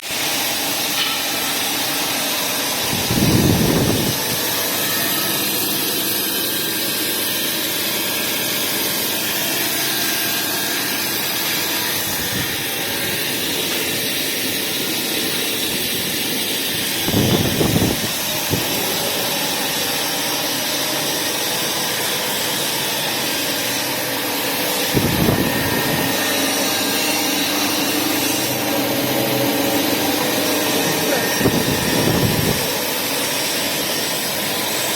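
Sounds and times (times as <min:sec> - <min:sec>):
pellet machine hiss and whir: 0:00.0 - 0:34.9.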